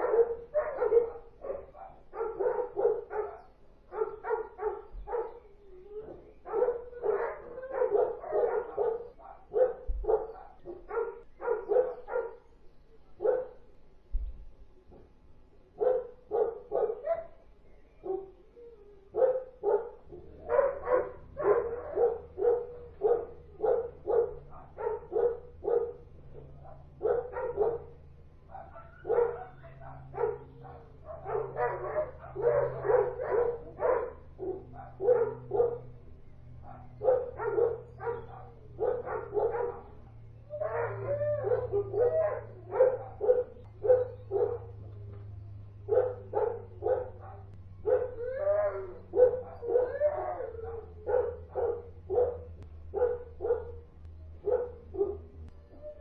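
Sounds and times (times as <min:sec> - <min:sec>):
dog yelping: 0:00.0 - 0:12.4, 0:15.8 - 0:17.4, 0:18.0 - 0:56.0
dogs barking: 0:00.0 - 0:13.8, 0:14.9 - 0:56.0
faint low hum: 0:00.0 - 0:56.0.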